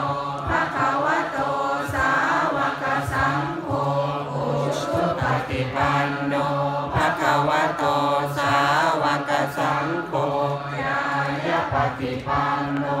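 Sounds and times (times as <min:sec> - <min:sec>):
many voices chanting in unison: 0:00.0 - 0:13.0.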